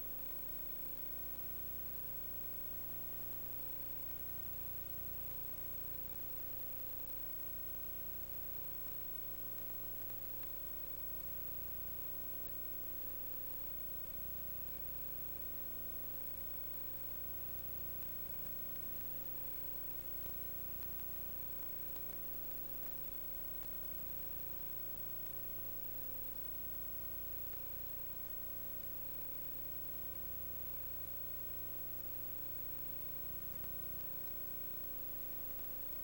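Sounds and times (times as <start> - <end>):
electrical hum and hiss: 0.0 - 36.0.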